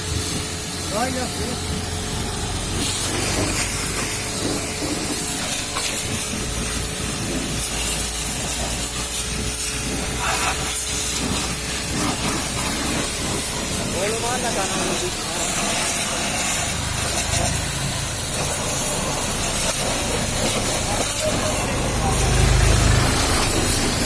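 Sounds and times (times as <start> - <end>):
pressure washer jet spraying water: 0.0 - 24.0.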